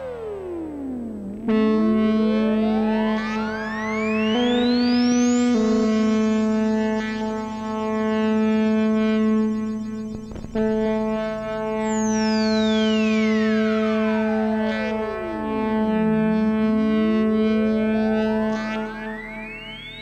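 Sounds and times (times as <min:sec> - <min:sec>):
synthesizer drone: 0:00.0 - 0:20.0.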